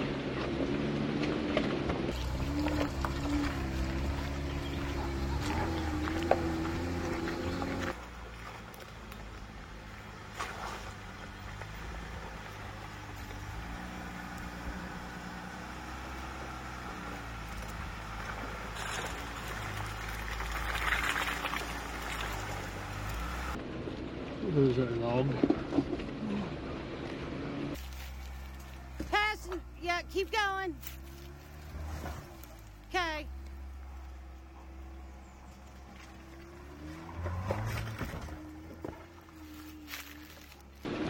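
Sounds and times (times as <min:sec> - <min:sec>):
engine running at low revs: 0:00.0 - 0:41.0.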